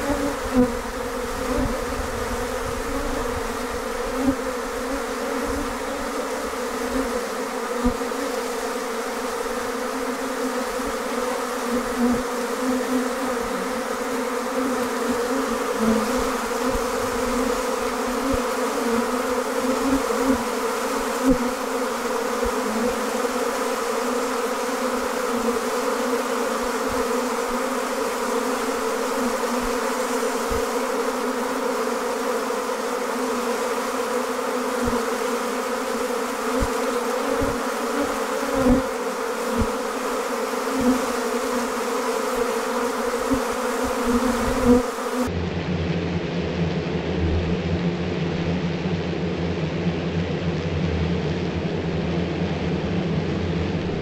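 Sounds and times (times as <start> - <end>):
honey bee swarm buzzing: 0.0 - 45.4.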